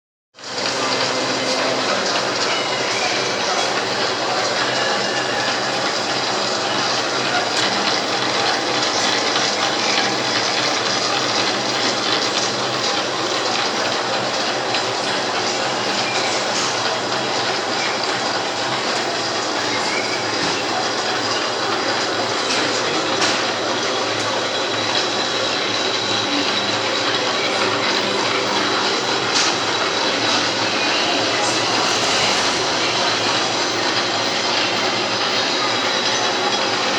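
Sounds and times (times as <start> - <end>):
milling machine running: 0.4 - 36.9.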